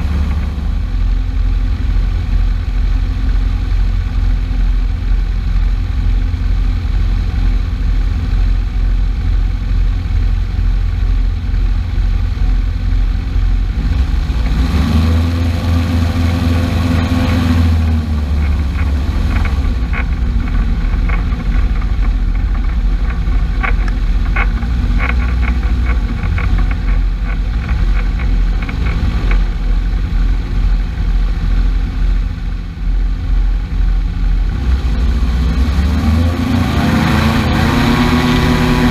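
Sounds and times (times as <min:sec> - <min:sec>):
engine running and revving: 0:00.0 - 0:38.9.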